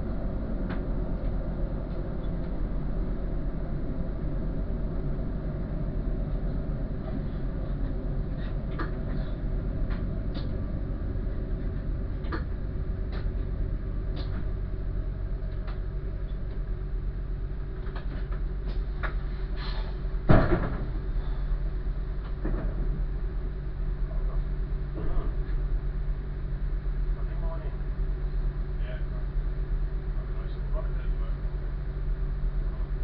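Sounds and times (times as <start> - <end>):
train engine humming: 0.0 - 33.0.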